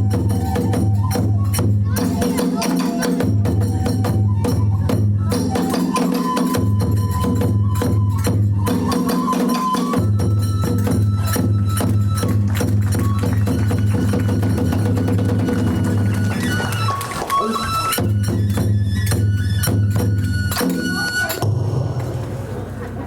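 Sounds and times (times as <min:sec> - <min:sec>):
drums in driving rhythm: 0:00.0 - 0:17.2, 0:17.9 - 0:22.7
bamboo flute high notes: 0:00.0 - 0:21.4.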